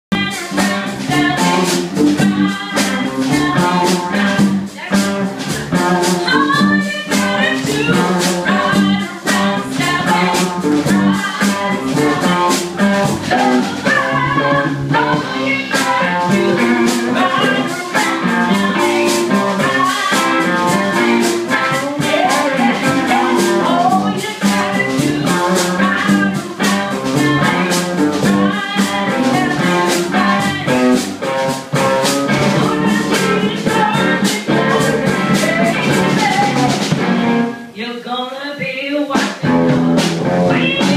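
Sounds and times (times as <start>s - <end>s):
drum kit beat: 0.1s - 37.8s, 39.1s - 40.9s
guitar: 0.1s - 40.9s
woman singing into a microphone: 0.2s - 31.4s, 32.3s - 36.9s, 37.8s - 39.6s, 40.5s - 40.9s.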